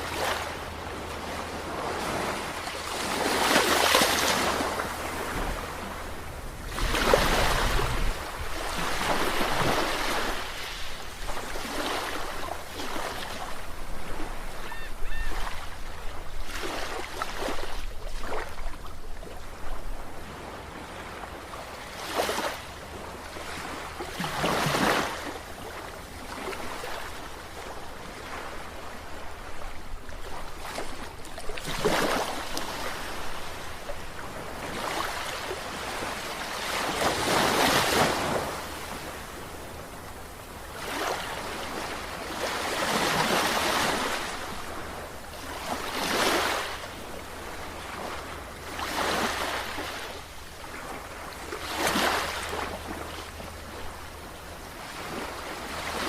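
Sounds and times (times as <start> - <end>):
sea waves breaking: 0.0 - 18.9, 20.2 - 56.0.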